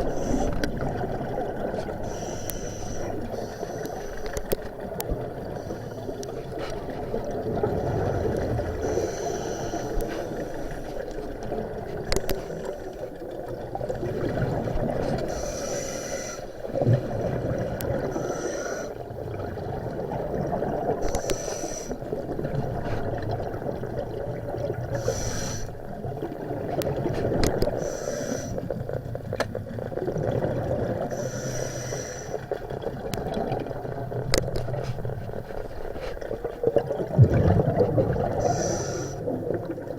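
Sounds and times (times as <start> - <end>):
muffled rushing water: 0.0 - 39.9.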